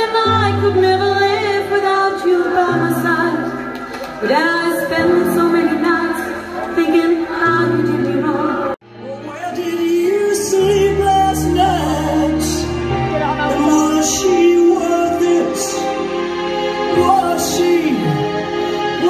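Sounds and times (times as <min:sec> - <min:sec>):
person singing into a microphone: 0:00.0 - 0:03.6, 0:04.2 - 0:16.1, 0:16.8 - 0:19.0.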